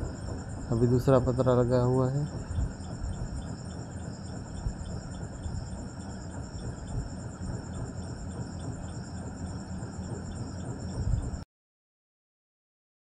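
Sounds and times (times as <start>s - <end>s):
faint ticking: 0.0s - 11.4s
insects chirping in a shrill trill: 0.0s - 11.4s
low rumble of wind: 0.0s - 11.4s.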